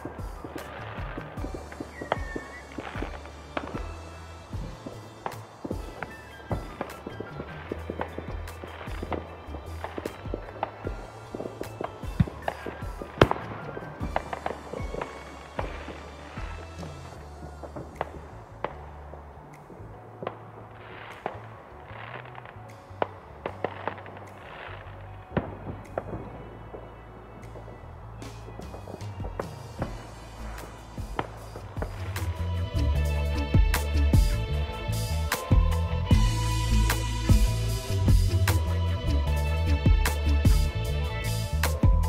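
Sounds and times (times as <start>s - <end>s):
fireworks bangs: 0.0s - 39.4s
fireworks crackling: 0.0s - 42.0s
music with low bass: 0.0s - 42.0s.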